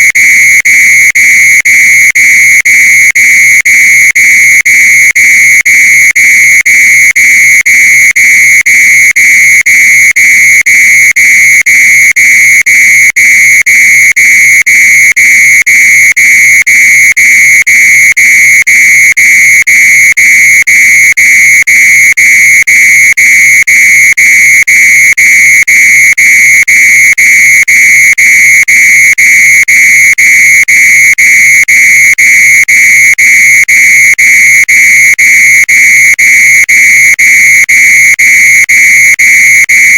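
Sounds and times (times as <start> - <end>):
fire alarm high-pitched tone: 0.0 - 39.9.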